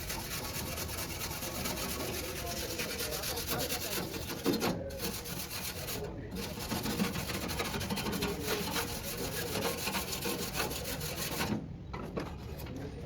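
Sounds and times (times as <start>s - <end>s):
rapid abrasive rasping on metal: 0.0s - 11.6s.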